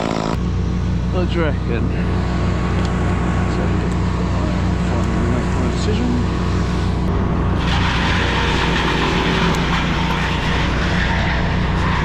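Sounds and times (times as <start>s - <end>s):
engine running steadily: 0.0s - 12.0s
loud rough rushing noise: 0.0s - 12.0s.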